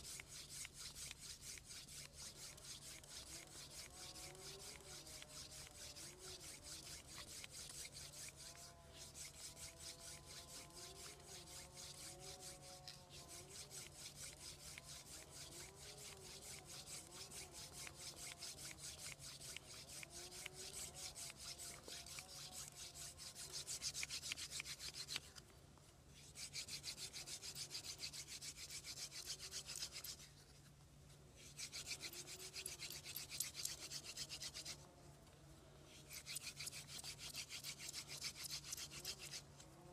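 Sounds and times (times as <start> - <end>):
wooden spindle rasping on board: 0.0 - 25.3, 26.4 - 30.3, 31.4 - 34.8, 36.1 - 39.4.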